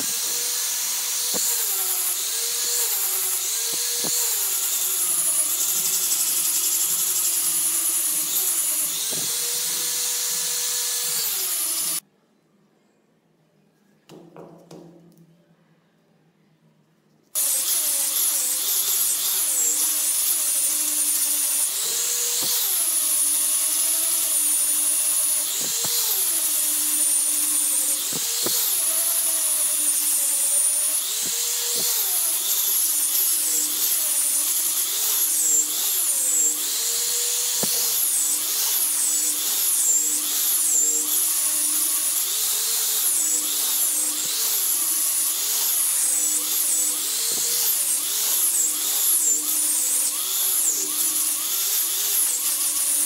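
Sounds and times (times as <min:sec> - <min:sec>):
angle grinder sanding wood: 0:00.0 - 0:12.0, 0:17.4 - 0:53.0.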